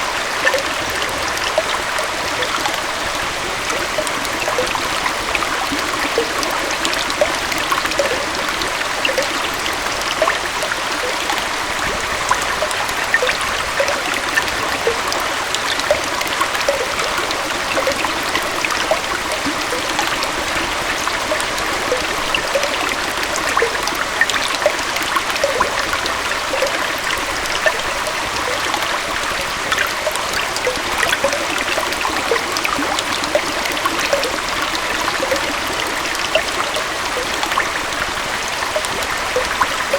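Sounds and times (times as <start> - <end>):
waterfall and stream flowing: 0.0 - 39.9.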